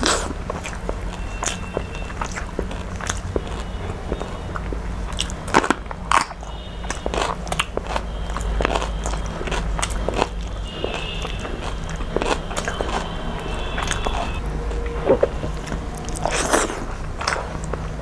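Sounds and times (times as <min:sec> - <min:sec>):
steady low hum: 0:00.0 - 0:18.0
woman chewing food: 0:00.0 - 0:18.0.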